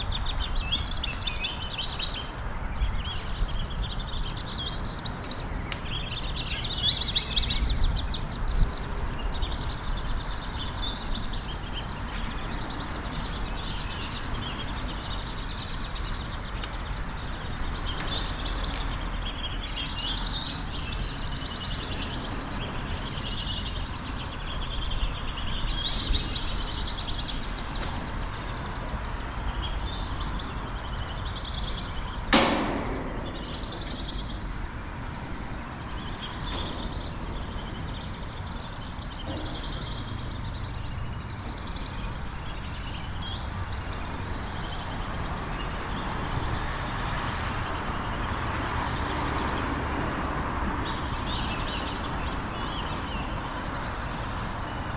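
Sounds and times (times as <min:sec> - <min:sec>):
birds chirping and calling: 0:00.0 - 0:54.9.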